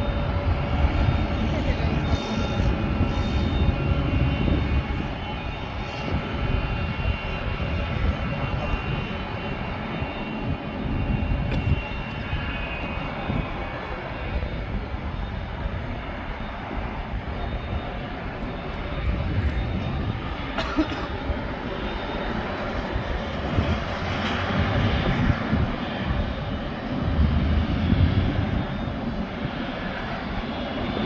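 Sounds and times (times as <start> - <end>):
jet engine whine: 0.0 - 31.0
jet engines rumbling: 0.0 - 31.0.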